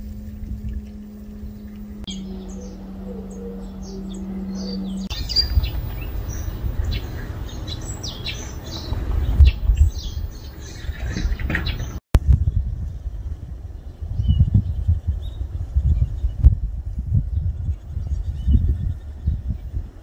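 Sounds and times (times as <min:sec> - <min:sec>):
low rumbling: 0:00.0 - 0:20.0
small birds chirping: 0:00.0 - 0:20.0
steady low hum: 0:00.0 - 0:20.0.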